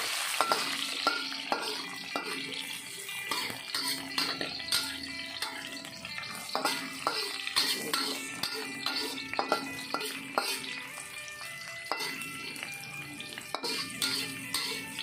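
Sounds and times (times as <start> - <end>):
oil sizzling: 0.0 - 15.0
metal spatula scraping a wok: 0.1 - 15.0
background music: 0.5 - 15.0.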